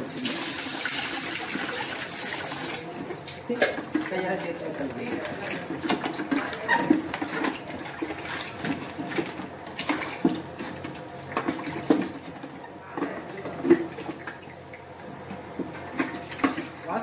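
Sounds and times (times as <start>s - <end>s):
water sloshing in plastic tank: 0.0s - 17.0s.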